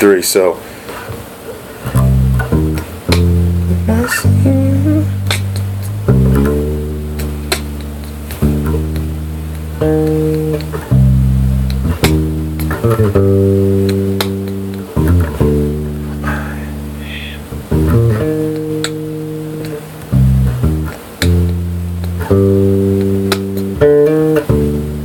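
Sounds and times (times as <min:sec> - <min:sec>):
electric bass guitar line: 0:01.9 - 0:25.0.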